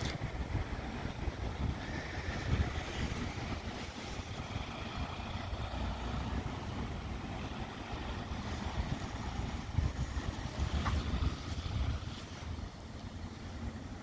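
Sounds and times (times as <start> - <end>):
steady outdoor hiss: 0.0 - 14.0
wind buffeting microphone: 0.0 - 14.0.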